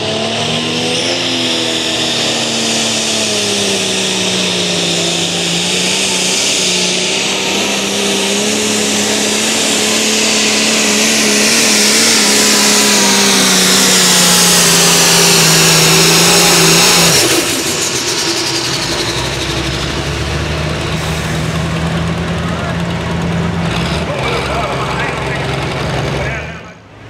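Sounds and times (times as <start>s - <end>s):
tractor engine running hard: 0.0s - 27.0s.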